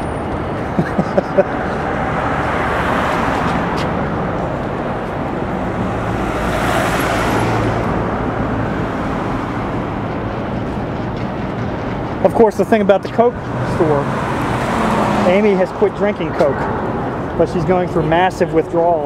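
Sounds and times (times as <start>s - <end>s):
road traffic noise: 0.0s - 19.0s
vehicle passing close: 0.0s - 19.0s.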